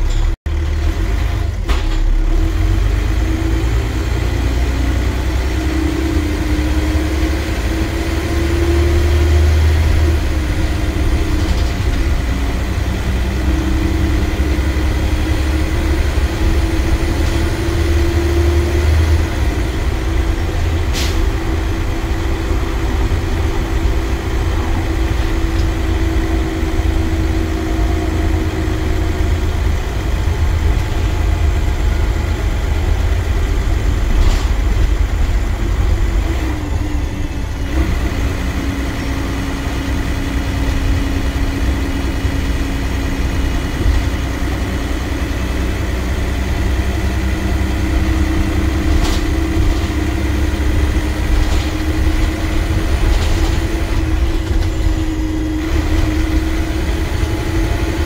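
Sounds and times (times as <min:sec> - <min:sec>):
bus engine drone: 0:00.0 - 0:58.0
road rumble: 0:00.0 - 0:58.0.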